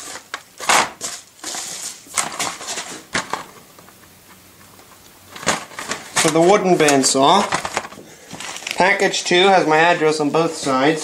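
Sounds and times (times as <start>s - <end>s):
packaging rustling and crackling: 0.0s - 11.0s.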